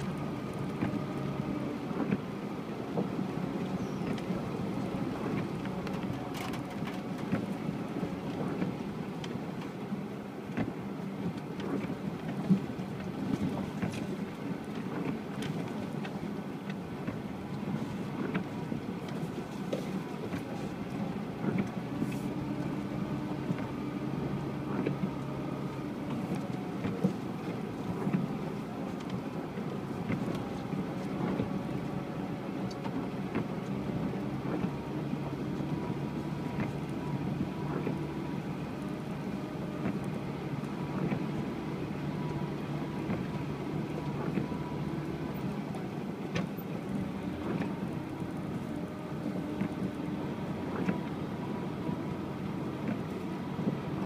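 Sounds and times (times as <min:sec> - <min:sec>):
suv engine running off-road: 0:00.0 - 0:54.0.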